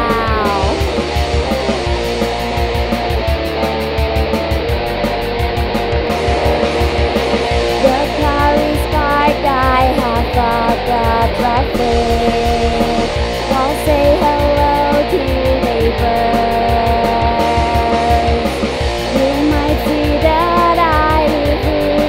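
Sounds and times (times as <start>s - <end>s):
rock music with guitar and drums: 0.0s - 22.0s.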